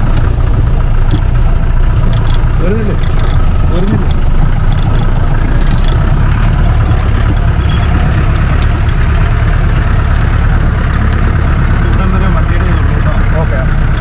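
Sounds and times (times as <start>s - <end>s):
jeep engine running: 0.0s - 14.0s
light knocks and rattles: 0.0s - 14.0s.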